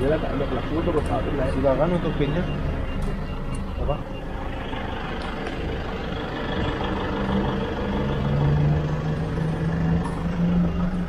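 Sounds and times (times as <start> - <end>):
car engine idling: 0.0 - 11.0
deep steady drone: 0.0 - 11.0.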